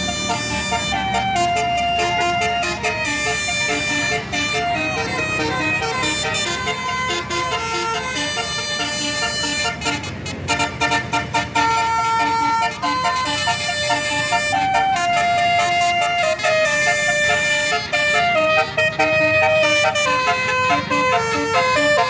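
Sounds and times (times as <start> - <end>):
multi-tone bus horn melody: 0.0 - 22.0.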